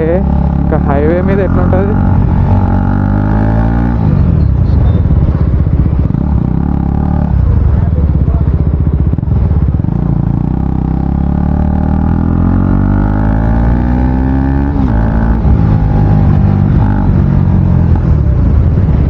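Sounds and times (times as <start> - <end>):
loud motorcycle engine revving: 0.0 - 19.0.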